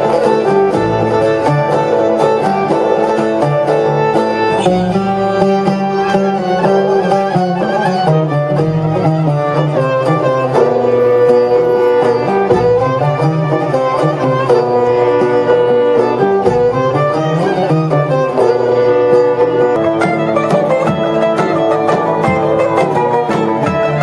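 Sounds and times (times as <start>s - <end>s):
string instrument dance music: 0.0s - 24.0s.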